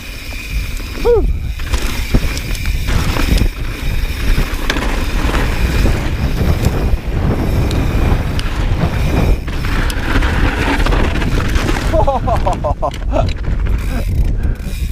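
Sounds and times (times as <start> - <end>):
stones and bike rattling: 0.0 - 14.9
wind rushing over microphone: 0.0 - 14.9
tyres rumbling on loose ground: 0.6 - 14.5.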